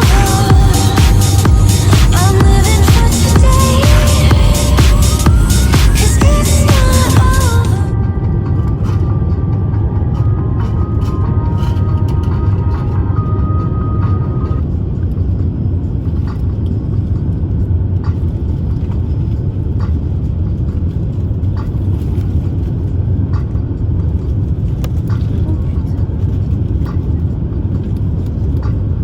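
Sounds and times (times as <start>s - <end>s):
aircraft cabin engine rumble: 0.0s - 29.0s.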